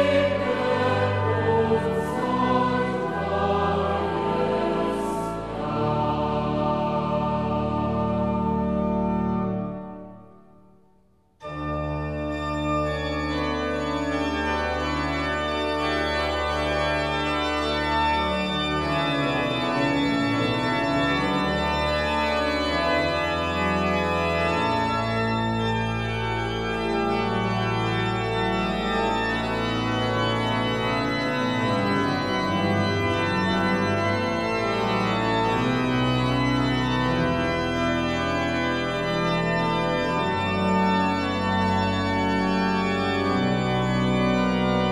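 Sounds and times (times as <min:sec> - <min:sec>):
organ music: 0:00.0 - 0:10.8, 0:11.4 - 0:44.9.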